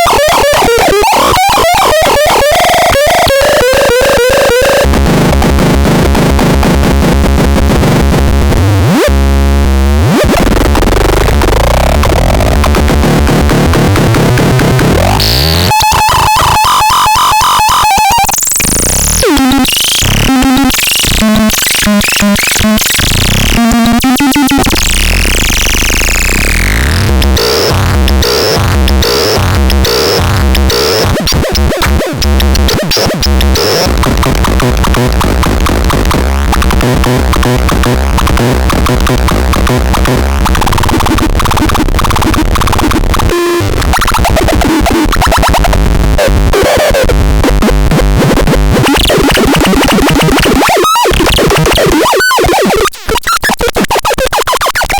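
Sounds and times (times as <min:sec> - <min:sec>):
fast crackling clicks: 0:00.0 - 0:09.0, 0:10.1 - 0:54.9
glitchy synthesizer noise: 0:00.0 - 0:54.9.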